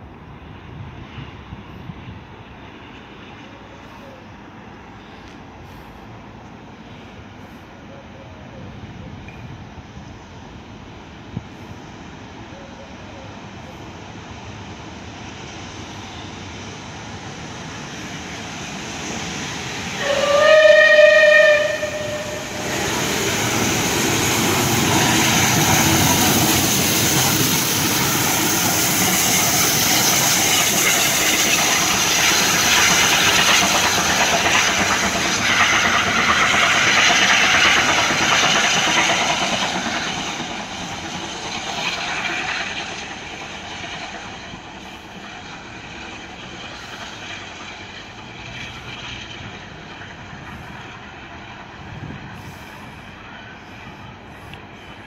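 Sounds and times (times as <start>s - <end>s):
steam train running past: 0.0s - 55.0s.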